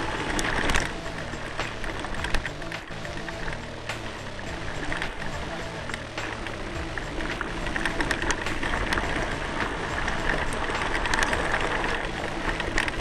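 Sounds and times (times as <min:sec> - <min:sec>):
bike rattling over stones: 0:00.0 - 0:13.0
steady ride rush: 0:00.0 - 0:13.0.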